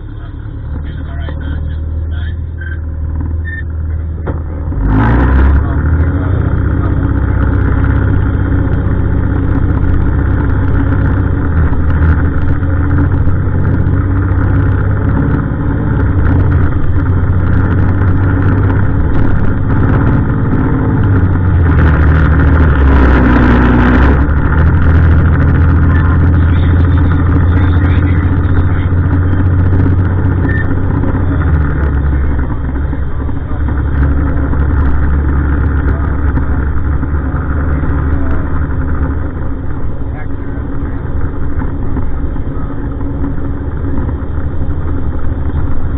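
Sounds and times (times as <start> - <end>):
garbage truck diesel engine: 0.0 - 45.9.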